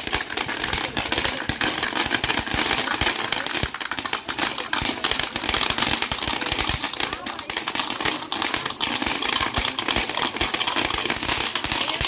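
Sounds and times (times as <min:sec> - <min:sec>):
firecrackers popping: 0:00.0 - 0:12.0.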